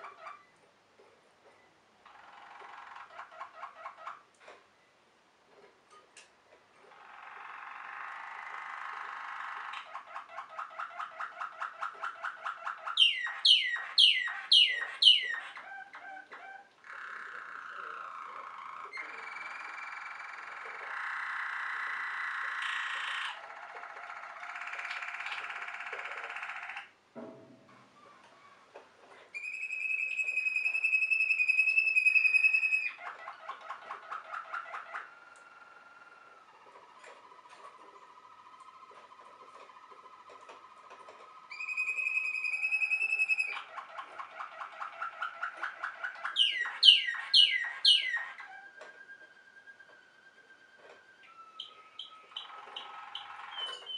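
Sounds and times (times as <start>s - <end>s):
canary singing trills: 0.0s - 0.6s, 1.5s - 4.4s, 6.8s - 27.0s, 29.3s - 53.9s.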